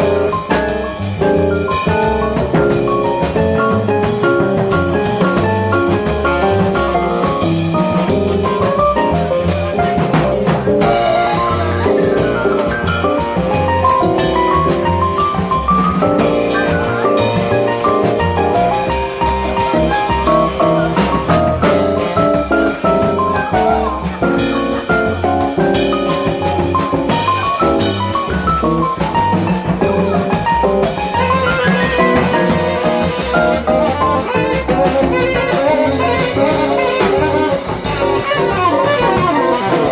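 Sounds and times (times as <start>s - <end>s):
drum kit keeping time: 0.0s - 39.9s
jazz quartet playing: 0.0s - 39.9s.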